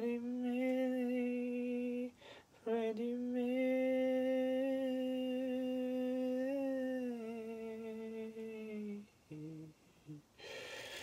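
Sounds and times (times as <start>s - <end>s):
man singing unaccompanied: 0.0s - 10.3s.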